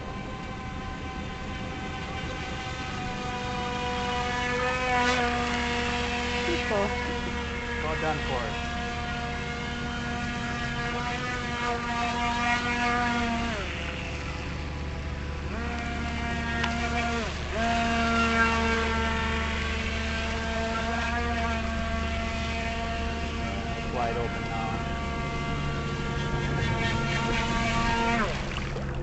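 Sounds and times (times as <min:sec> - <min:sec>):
rc boat electric motor whining: 0:00.0 - 0:29.0.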